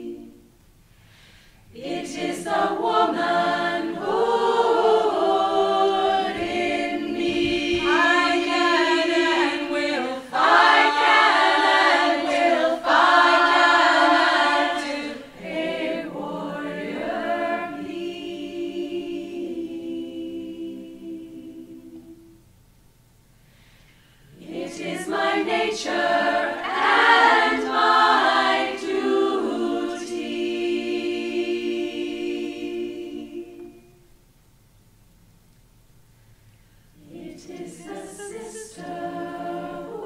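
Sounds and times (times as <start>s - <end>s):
choir singing a cappella: 0.0s - 0.6s, 1.6s - 22.4s, 24.1s - 34.2s, 36.9s - 40.0s.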